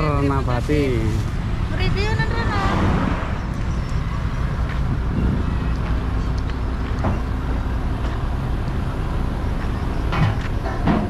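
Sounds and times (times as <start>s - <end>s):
heavy truck diesel rumble: 0.0s - 11.0s.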